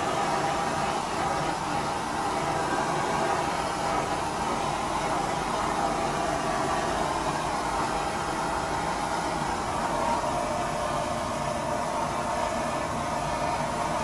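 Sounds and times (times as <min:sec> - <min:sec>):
blowtorch flame rushing: 0:00.0 - 0:14.0.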